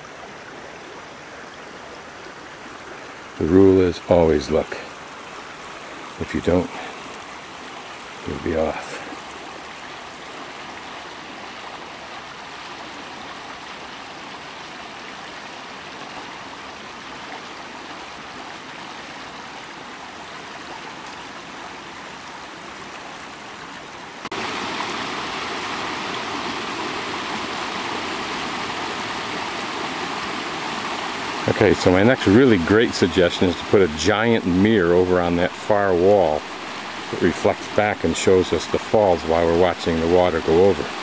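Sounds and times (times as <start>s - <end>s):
rush of flowing water: 0.0s - 41.0s.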